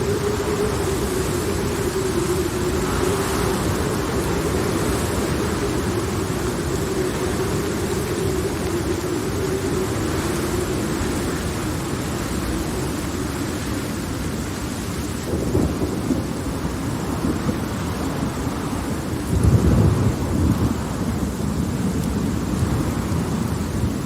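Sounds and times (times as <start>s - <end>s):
heavy rain: 0.0s - 24.0s
rolling thunder: 0.0s - 24.0s.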